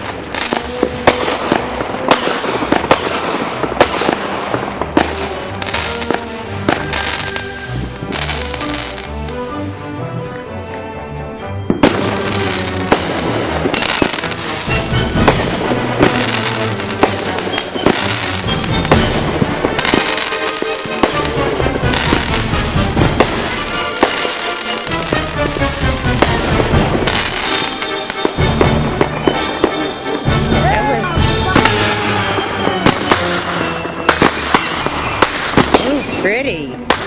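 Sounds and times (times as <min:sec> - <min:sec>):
fireworks bangs and crackles: 0:00.0 - 0:09.4, 0:11.5 - 0:37.0
music playing: 0:00.0 - 0:37.0.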